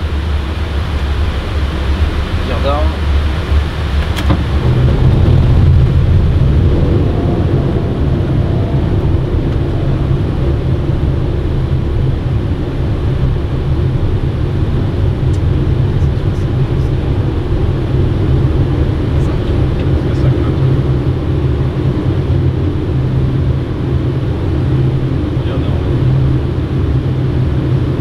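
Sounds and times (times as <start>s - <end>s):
aircraft cockpit low rumble: 0.0s - 28.0s.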